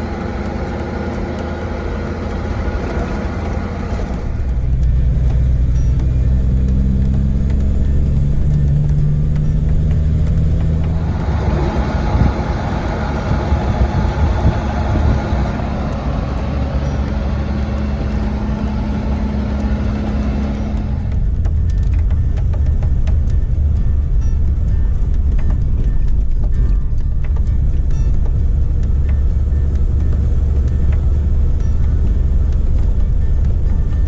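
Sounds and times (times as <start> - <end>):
heavy truck engine drone: 0.0 - 34.0
road noise: 0.0 - 34.0.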